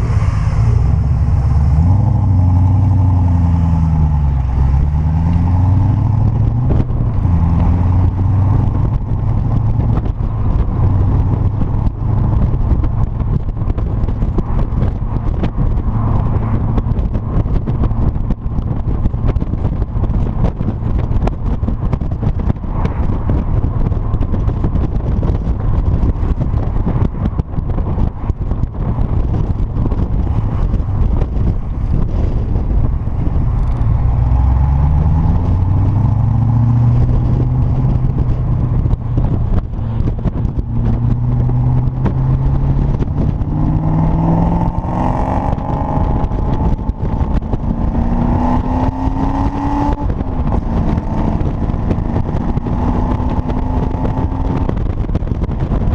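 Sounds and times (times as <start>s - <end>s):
car engine accelerating: 0.0s - 55.9s
wind and road rush: 0.0s - 55.9s.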